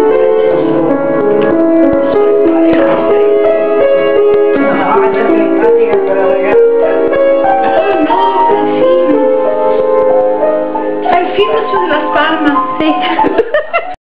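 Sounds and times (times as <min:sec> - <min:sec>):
slow instrumental melody: 0:00.0 - 0:14.0.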